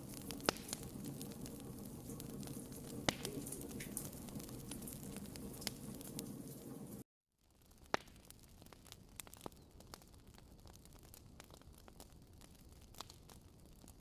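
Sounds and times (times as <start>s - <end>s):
sharp pops of fire: 0.0s - 7.0s, 7.6s - 14.0s
wood fire crackling: 0.0s - 14.0s.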